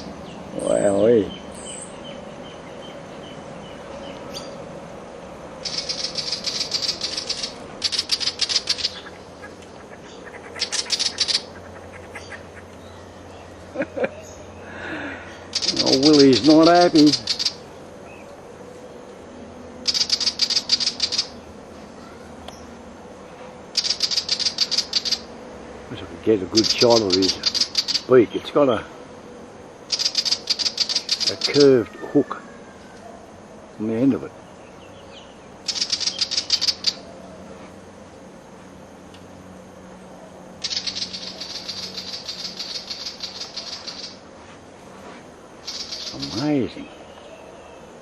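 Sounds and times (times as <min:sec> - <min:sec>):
bird scolding chatter: 0:00.0 - 0:04.7, 0:05.6 - 0:37.6, 0:39.4 - 0:44.6, 0:45.5 - 0:48.0.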